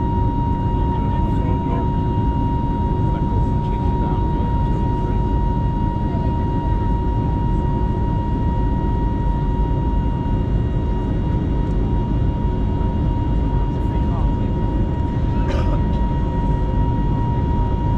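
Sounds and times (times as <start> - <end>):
airliner cabin engine rush: 0.0 - 17.9.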